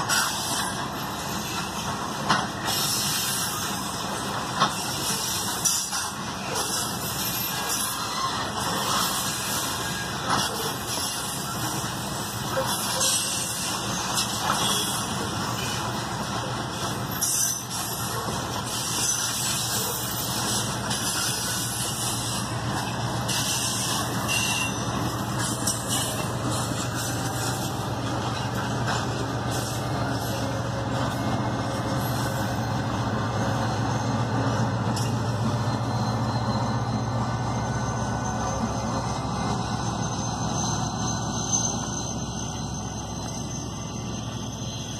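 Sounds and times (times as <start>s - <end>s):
diesel locomotive engine drone: 0.0s - 44.9s
freight train cars rolling past: 0.0s - 44.9s.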